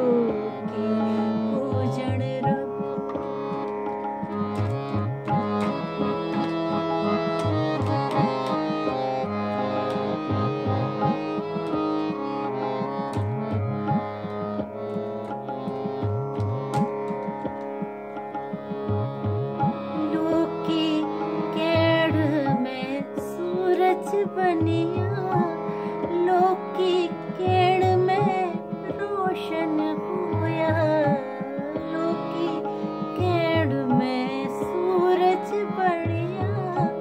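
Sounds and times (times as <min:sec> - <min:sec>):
tabla with gliding bass strokes: 0:00.0 - 0:12.2, 0:12.9 - 0:20.8, 0:21.5 - 0:37.0
harmonium melody: 0:00.0 - 0:37.0.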